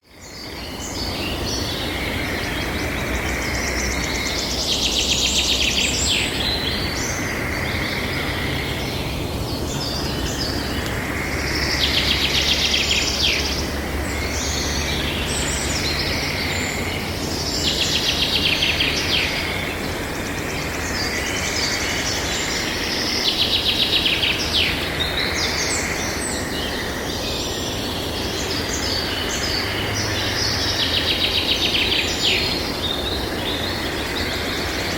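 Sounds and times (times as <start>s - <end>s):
background hiss and rumble: 0.0s - 34.9s.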